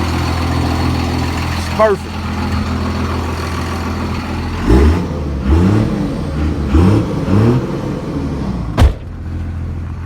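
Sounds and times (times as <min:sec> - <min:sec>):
diesel truck engine revving: 0:00.0 - 0:10.0.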